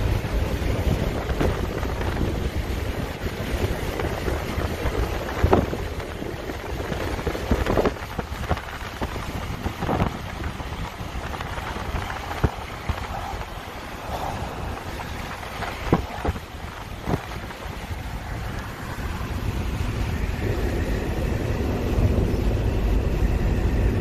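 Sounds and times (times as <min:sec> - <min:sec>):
moving car rumble: 0:00.0 - 0:24.0
wind buffeting microphone: 0:00.0 - 0:24.0.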